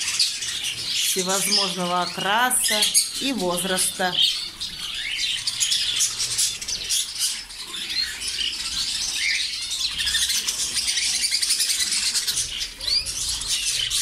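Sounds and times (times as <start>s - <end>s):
caged birds twittering: 0.0s - 14.0s.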